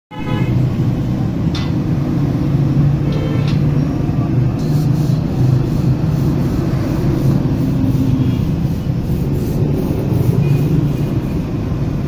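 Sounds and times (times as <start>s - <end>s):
traffic engines rumbling: 0.1s - 12.0s.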